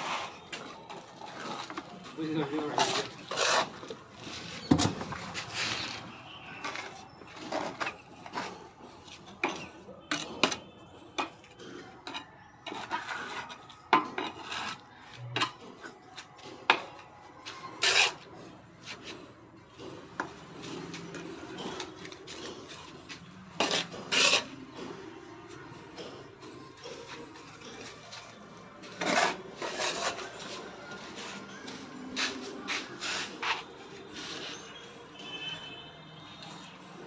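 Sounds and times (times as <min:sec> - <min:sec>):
trowel scraping mortar: 0:00.0 - 0:01.9, 0:02.5 - 0:10.6, 0:11.2 - 0:16.0, 0:16.6 - 0:19.2, 0:20.1 - 0:25.3, 0:26.4 - 0:34.8.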